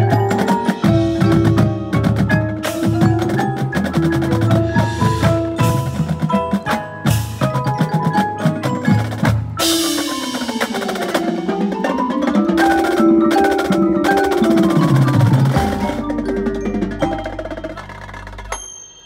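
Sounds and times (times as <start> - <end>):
drumline playing: 0.0 - 18.6
marimbas and mallet keyboards: 0.0 - 19.0.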